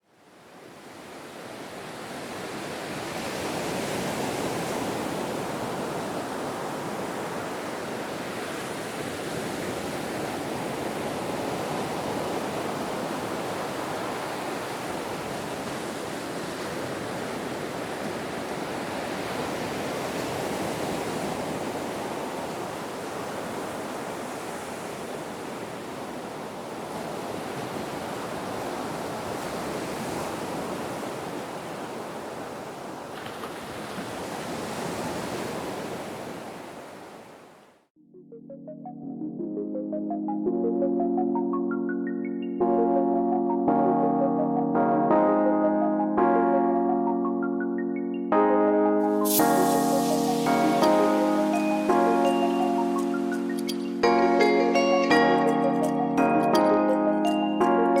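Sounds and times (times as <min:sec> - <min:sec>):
ocean waves washing in: 0:00.7 - 0:37.6, 0:39.3 - 0:58.0.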